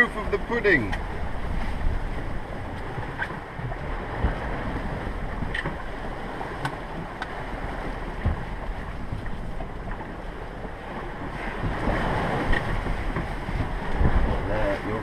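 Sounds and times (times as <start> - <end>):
wind and sea rushing: 0.0 - 15.0
wind buffeting microphone: 0.0 - 15.0.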